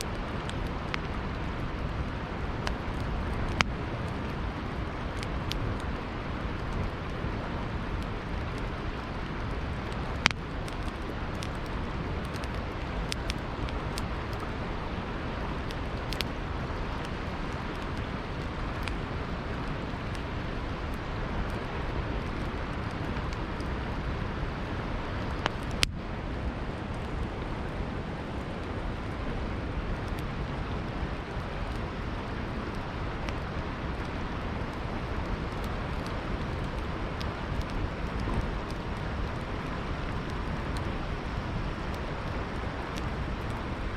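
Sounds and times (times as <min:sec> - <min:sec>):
campfire crackling and popping: 0:00.0 - 0:43.9
river water rushing: 0:00.0 - 0:43.9.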